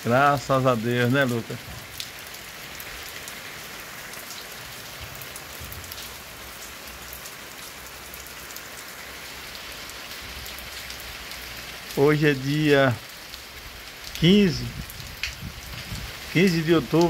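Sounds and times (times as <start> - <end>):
light rain on wet pavement: 0.0 - 17.0.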